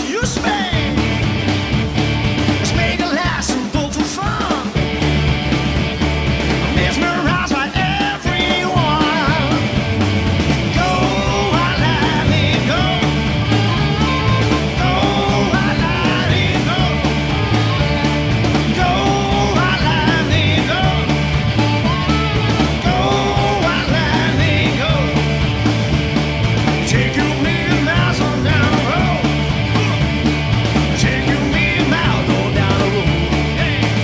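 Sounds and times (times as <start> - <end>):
bass and drums: 0.0 - 34.0
rock band playing: 0.0 - 34.0
wavering guitar lead line: 0.6 - 3.0, 4.6 - 34.0.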